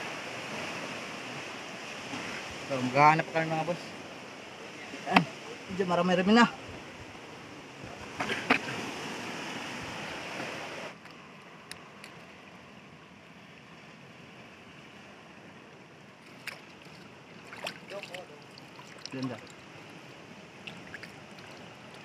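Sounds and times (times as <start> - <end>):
sea surf rushing: 0.0 - 22.0.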